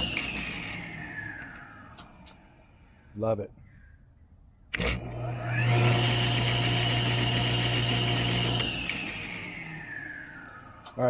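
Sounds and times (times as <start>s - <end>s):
table saw motor hum: 0.0s - 2.6s, 4.7s - 11.0s
saw blade whine: 0.0s - 3.0s, 4.7s - 11.0s.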